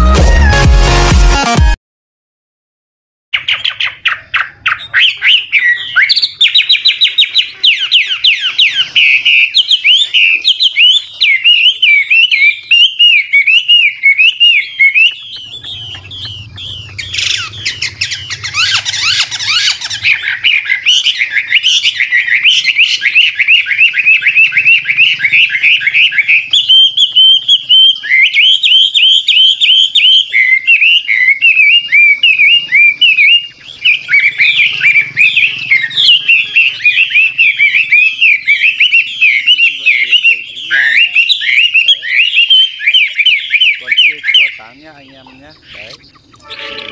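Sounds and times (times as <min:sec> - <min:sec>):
bird singing rapid trills: 0:03.4 - 0:46.9
harsh noisy bird call: 0:03.4 - 0:46.9.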